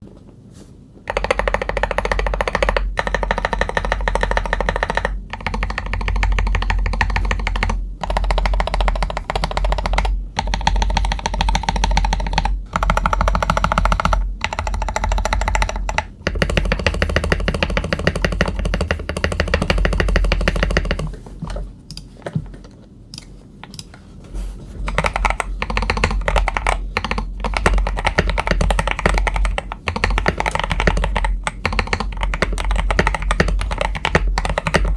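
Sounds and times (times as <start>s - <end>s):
mechanical keyboard typing: 1.1s - 24.0s, 24.9s - 34.9s.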